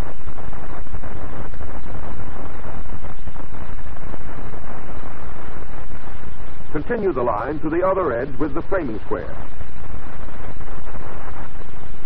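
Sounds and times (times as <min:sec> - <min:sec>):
film soundtrack hiss and rumble: 0:00.0 - 0:12.0.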